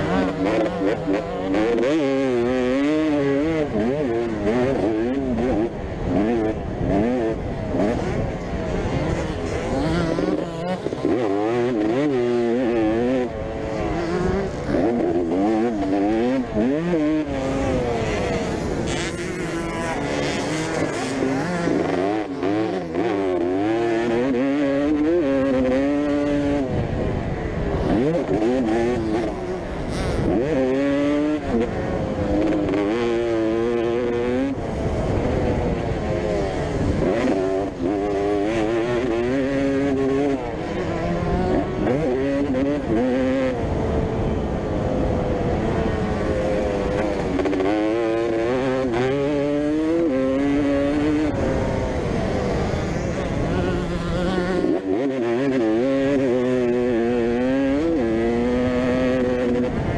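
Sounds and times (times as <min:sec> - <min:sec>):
motocross bikes revving: 0:00.0 - 0:59.9.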